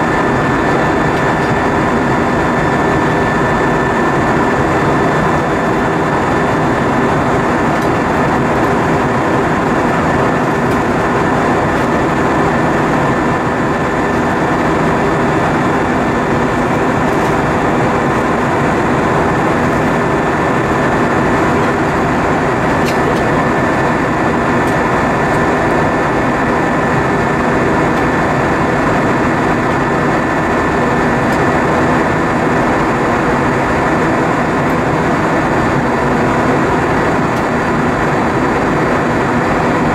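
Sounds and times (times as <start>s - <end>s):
airliner cabin noise: 0.0s - 39.9s
faint steady whine: 0.0s - 39.9s.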